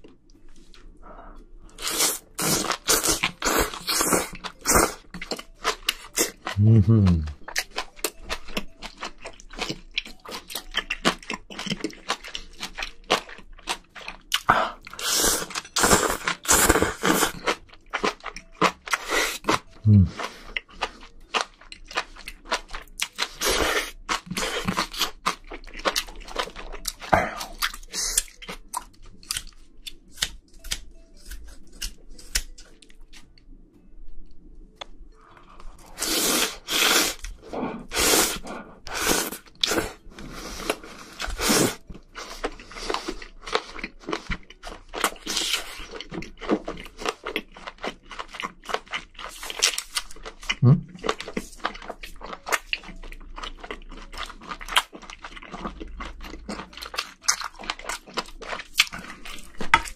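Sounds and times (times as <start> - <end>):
wet chewing: 1.7 - 33.3, 35.5 - 59.9.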